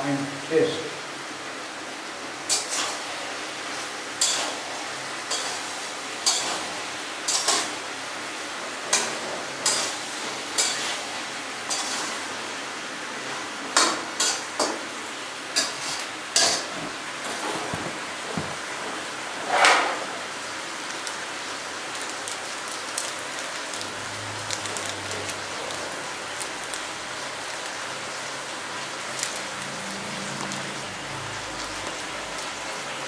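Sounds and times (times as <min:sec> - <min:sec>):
frying hiss: 0:00.0 - 0:33.0.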